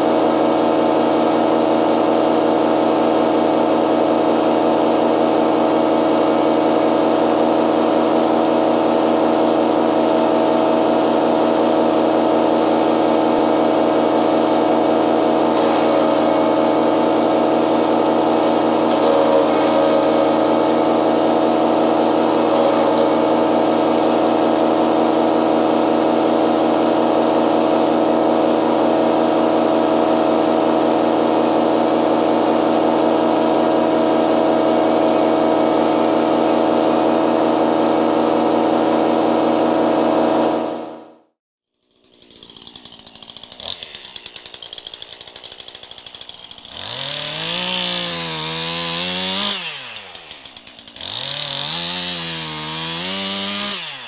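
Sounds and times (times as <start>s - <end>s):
chainsaw revving and cutting wood: 0.0s - 41.2s, 41.8s - 54.0s
chainsaw running: 0.0s - 54.0s.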